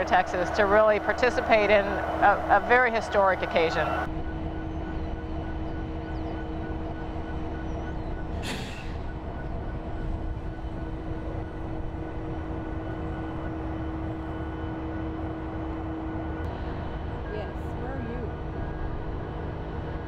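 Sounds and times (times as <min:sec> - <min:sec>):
diesel locomotives idling: 0:00.0 - 0:20.0.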